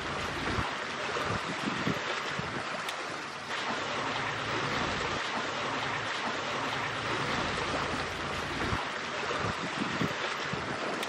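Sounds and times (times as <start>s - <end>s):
ocean surf: 0.0s - 11.0s
wind: 0.0s - 11.0s.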